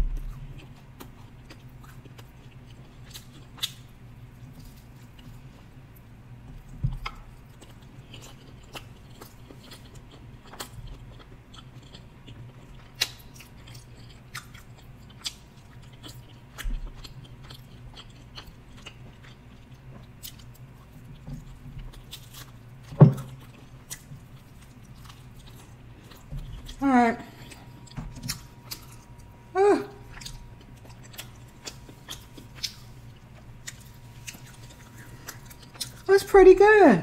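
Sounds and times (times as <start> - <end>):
chewing and biting pizza: 0.0 - 36.1.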